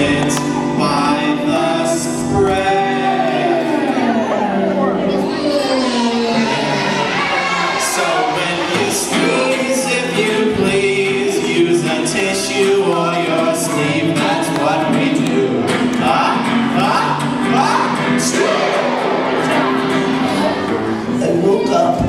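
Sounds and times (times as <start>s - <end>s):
voices singing: 0.0s - 22.0s.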